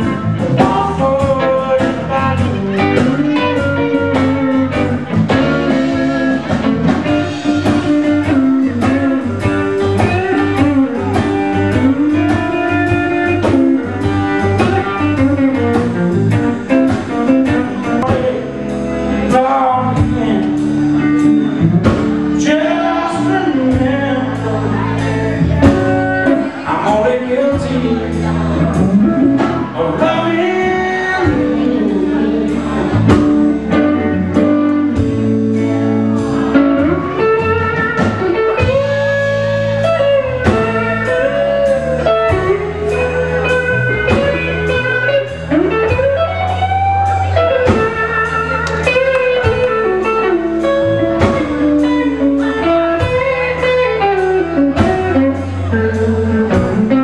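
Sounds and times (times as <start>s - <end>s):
lead electric guitar bending notes: 0.0s - 57.0s
live blues band: 0.0s - 57.0s.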